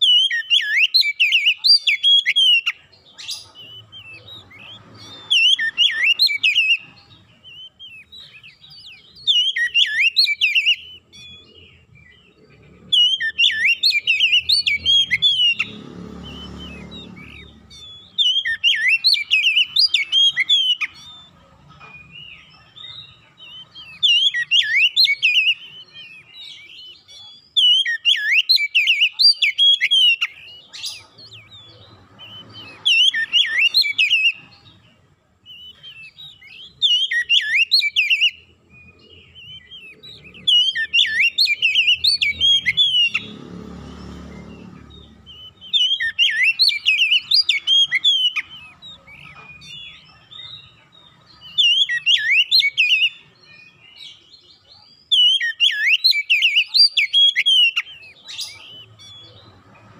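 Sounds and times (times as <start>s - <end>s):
bird singing whistled phrases: 0.0s - 21.4s, 22.0s - 43.4s, 44.3s - 59.7s.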